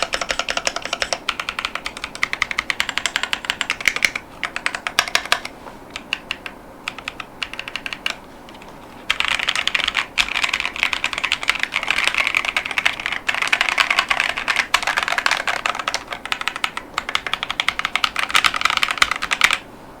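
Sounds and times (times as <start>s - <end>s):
mechanical keyboard typing: 0.0s - 19.6s.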